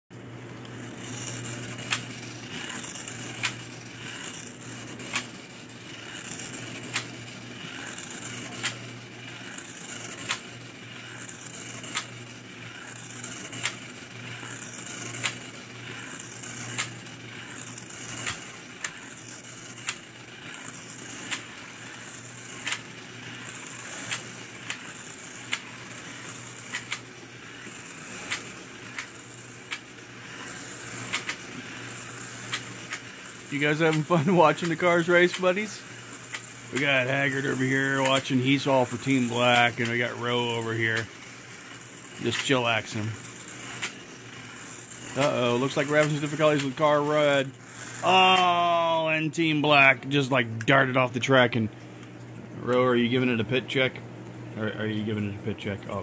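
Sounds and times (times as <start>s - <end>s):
slot car motor whine: 0.1s - 56.0s.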